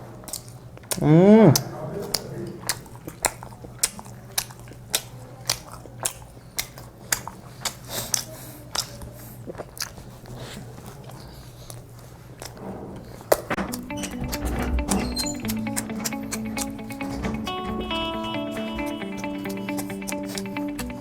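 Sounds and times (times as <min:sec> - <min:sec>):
people chewing with smacks: 0:00.0 - 0:14.4, 0:15.0 - 0:21.0.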